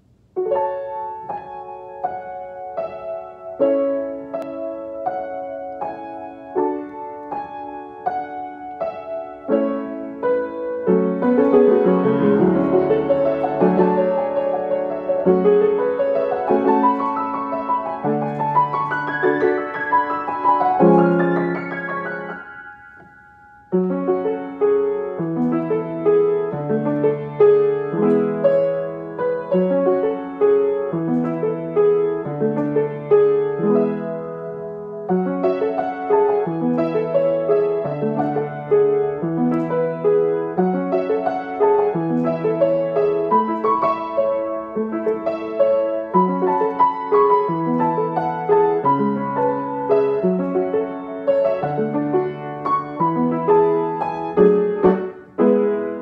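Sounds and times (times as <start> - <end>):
solo grand piano: 0.0 - 56.0.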